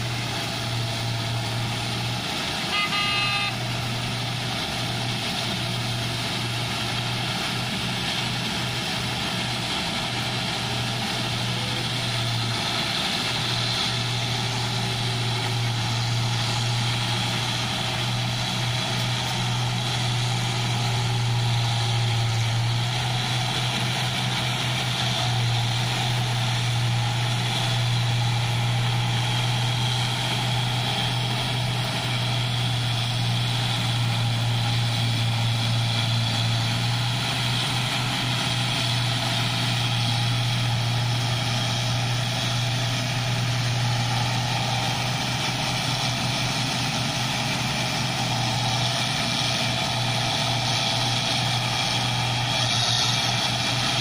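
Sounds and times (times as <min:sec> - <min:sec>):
combine harvester diesel engines droning: 0:00.0 - 0:54.0.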